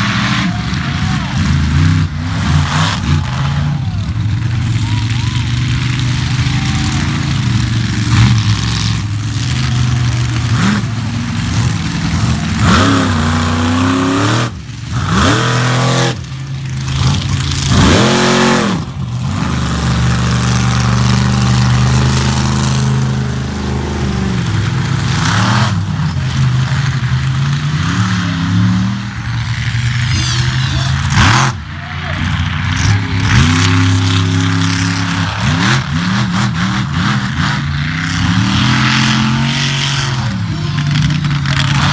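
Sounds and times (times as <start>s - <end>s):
monster truck engine revving: 0.0s - 41.9s.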